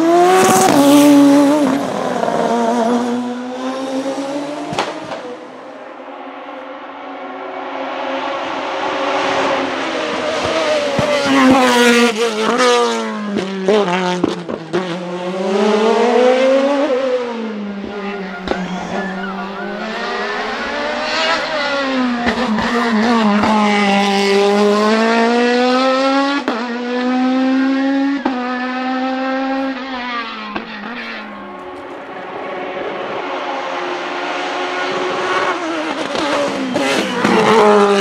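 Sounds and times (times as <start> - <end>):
race car engine revving: 0.0 - 5.7, 6.3 - 38.0.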